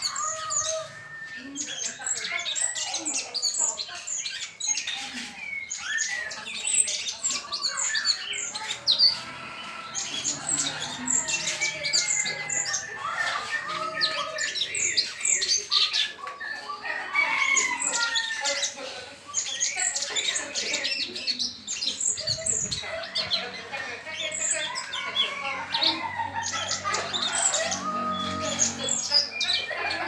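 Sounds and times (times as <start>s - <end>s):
birds singing chirps and trills: 0.0s - 30.0s.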